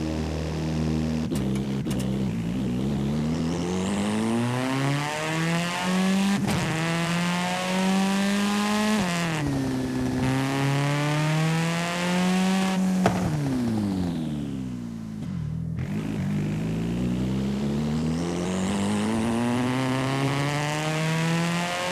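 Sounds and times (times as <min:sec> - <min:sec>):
video game car engine accelerating: 0:00.0 - 0:21.9.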